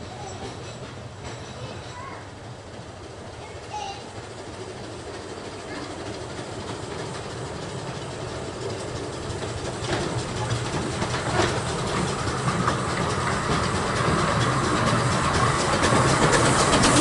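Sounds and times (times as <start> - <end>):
steam locomotive approaching: 0.0 - 17.0.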